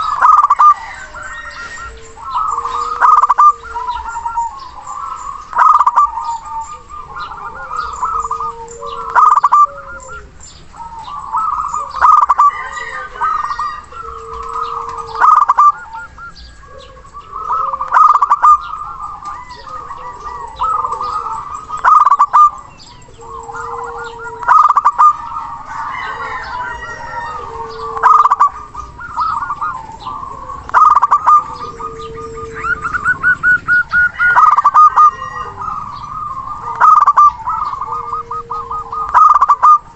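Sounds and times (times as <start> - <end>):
doves cooing: 0.0 - 39.9
other birds calling: 0.0 - 39.9.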